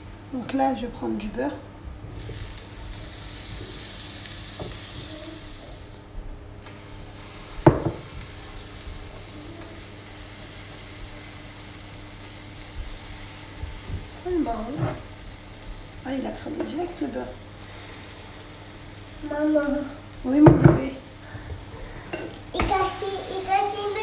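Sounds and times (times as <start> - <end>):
butter sizzling on hot plates: 2.0 - 24.0.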